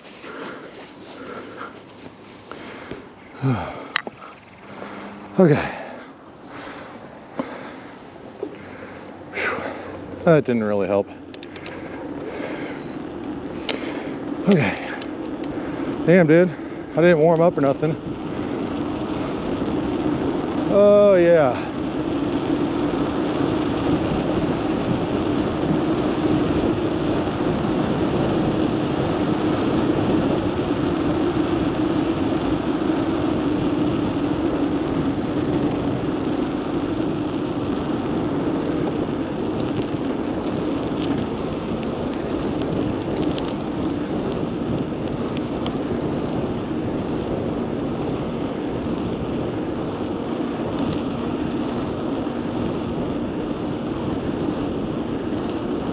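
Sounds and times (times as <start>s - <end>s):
bicycle road noise: 0.0s - 55.9s
wind rushing over microphone: 0.0s - 55.9s.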